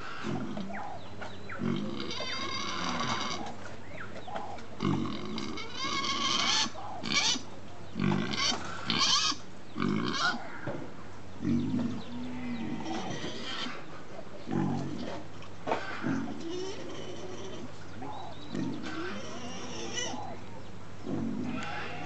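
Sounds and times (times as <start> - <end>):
pigs squealing: 0.0 - 1.0, 1.6 - 3.6, 4.3 - 10.7, 11.5 - 13.9, 14.5 - 20.4, 21.0 - 22.0
pigs grunting: 0.0 - 22.0.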